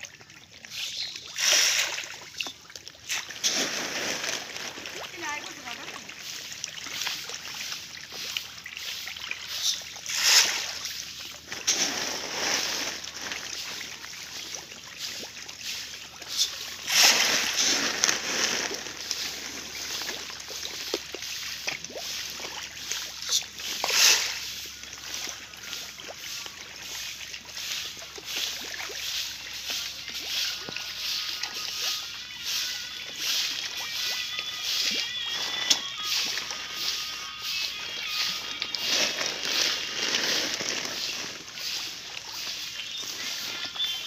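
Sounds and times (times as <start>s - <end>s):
fish splashing at water surface: 0.0s - 44.0s.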